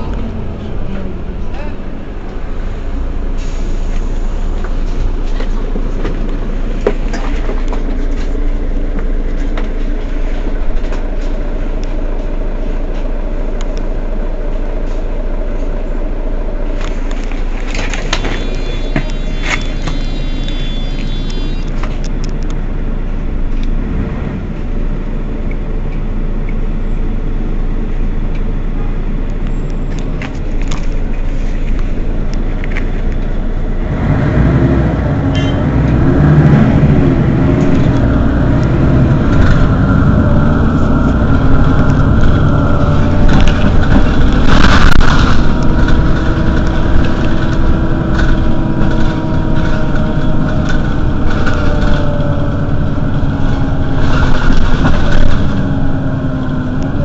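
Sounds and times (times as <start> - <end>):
steady whine: 0.0 - 23.7, 35.0 - 57.0
bus engine idling: 0.0 - 57.0.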